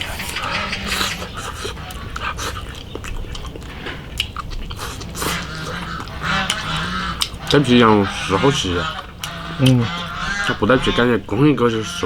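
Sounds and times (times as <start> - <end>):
person chewing food: 0.0 - 11.1.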